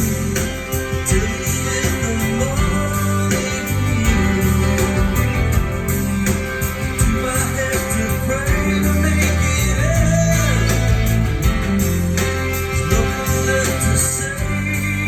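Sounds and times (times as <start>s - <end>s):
person singing: 0.0s - 11.3s, 12.6s - 15.0s
bass line: 0.0s - 15.0s
guitar-led song: 0.0s - 15.0s.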